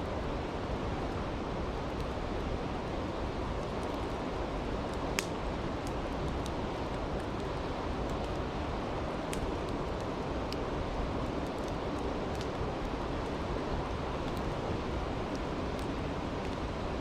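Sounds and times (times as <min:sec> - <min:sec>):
campfire crackling and popping: 0:00.3 - 0:17.0.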